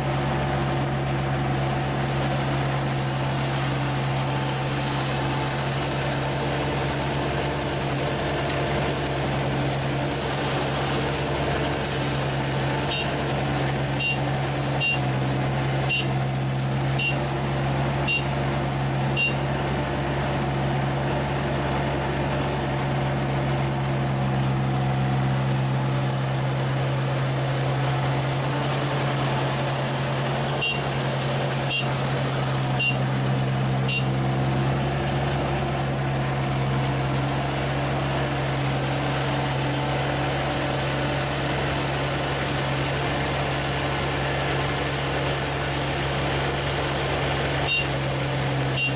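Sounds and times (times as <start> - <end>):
harvester engine running: 0.0 - 48.9.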